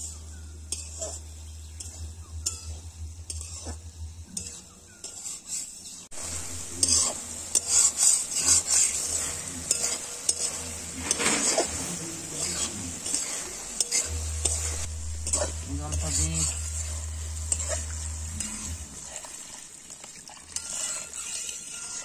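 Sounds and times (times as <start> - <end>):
food sizzling: 0.0 - 22.0
spoon stirring and scraping pan: 0.0 - 22.0.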